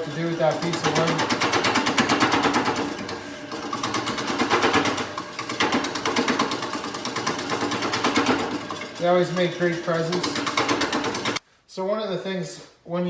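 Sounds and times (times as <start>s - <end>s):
wood lathe tool clattering: 0.0s - 11.4s.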